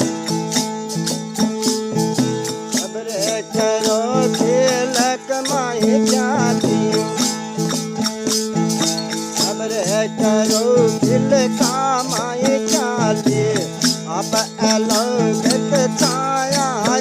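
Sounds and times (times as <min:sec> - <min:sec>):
held steady notes: 0:00.0 - 0:17.0
rattle percussion strokes: 0:00.0 - 0:17.0.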